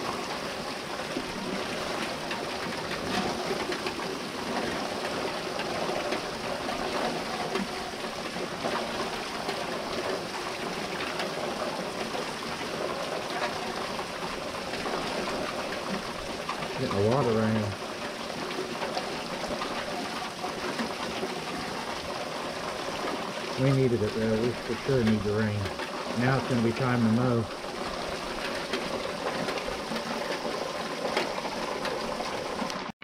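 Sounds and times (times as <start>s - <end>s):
heavy rain patter: 0.0s - 33.0s
water pouring off a roof: 0.0s - 33.0s.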